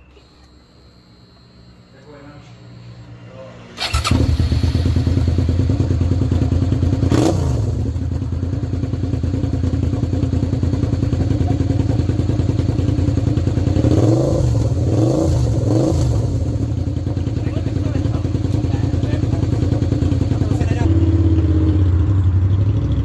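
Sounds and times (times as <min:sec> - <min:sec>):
motorcycle engine revving: 0:02.0 - 0:23.0
motorcycle engine idling: 0:03.8 - 0:23.0.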